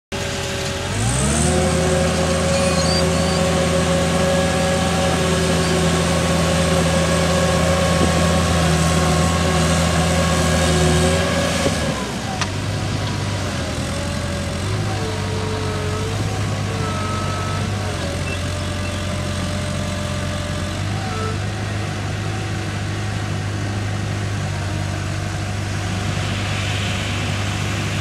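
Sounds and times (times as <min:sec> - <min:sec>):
diesel engine revving: 0:00.1 - 0:28.0.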